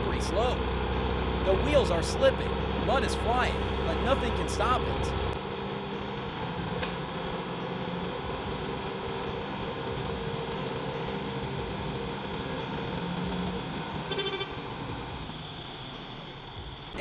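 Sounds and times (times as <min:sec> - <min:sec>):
diesel engines under heavy load: 0:00.0 - 0:17.0.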